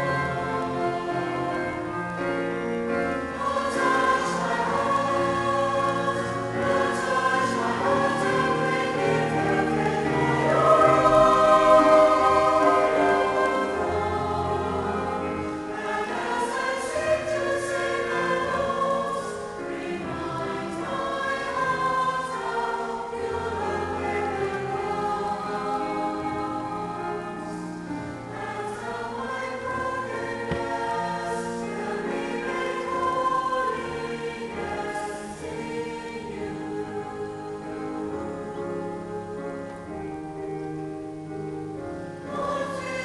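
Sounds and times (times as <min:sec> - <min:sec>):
mixed choir singing: 0:00.0 - 0:43.0.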